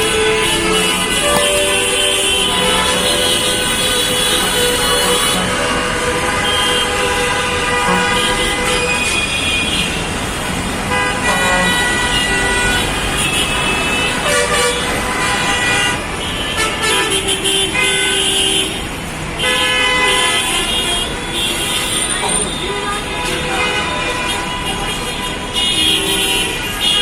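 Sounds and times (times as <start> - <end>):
vehicle horns honking: 0.0 - 10.2, 10.9 - 27.0
engines rumbling in traffic: 0.0 - 27.0.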